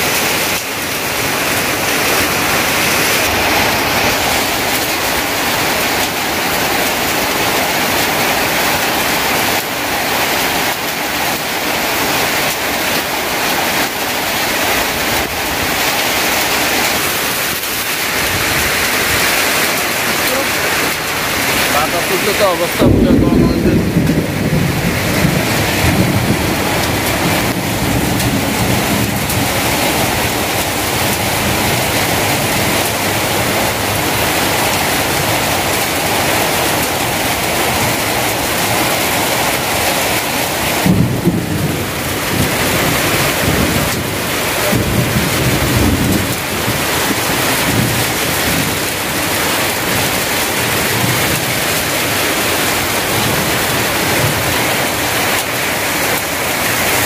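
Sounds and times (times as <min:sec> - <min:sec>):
heavy rain on tin roofs: 0:00.0 - 0:57.0.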